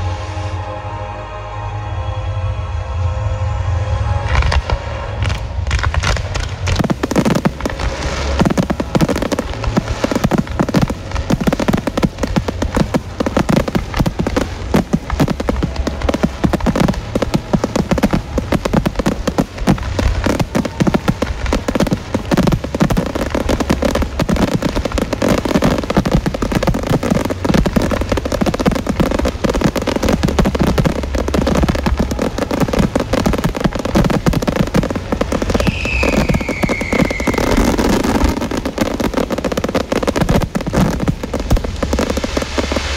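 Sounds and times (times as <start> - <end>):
fireworks bursting and crackling: 4.3 - 42.9.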